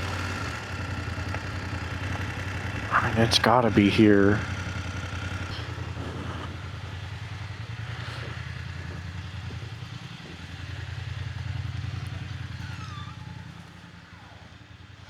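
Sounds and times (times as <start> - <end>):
motorcycle engine throbbing: 0.0 - 15.0.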